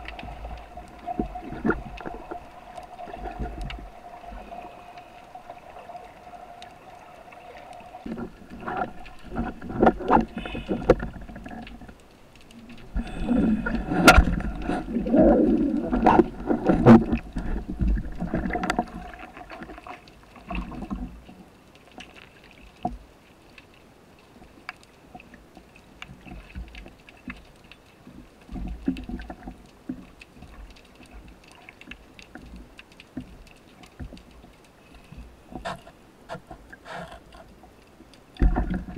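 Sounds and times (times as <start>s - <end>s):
water sloshing and gurgling: 0.0s - 38.9s.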